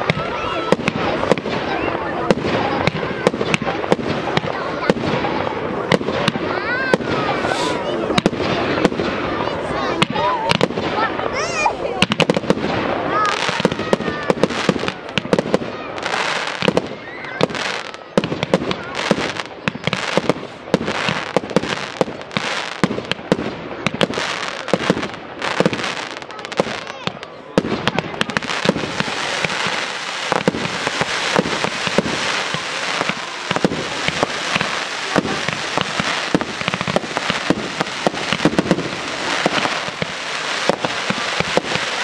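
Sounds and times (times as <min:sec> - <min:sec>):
fireworks bangs and pops: 0:00.0 - 0:42.0.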